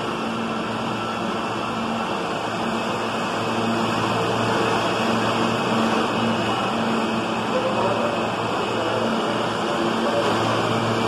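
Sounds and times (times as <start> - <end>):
subway train wheels on rail: 0.0 - 11.0.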